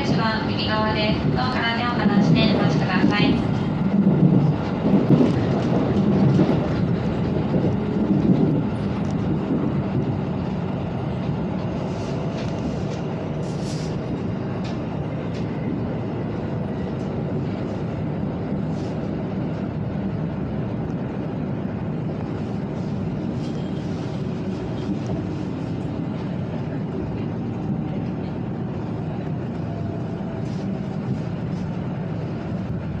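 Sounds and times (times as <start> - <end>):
train interior rumble and hum: 0.0 - 33.0.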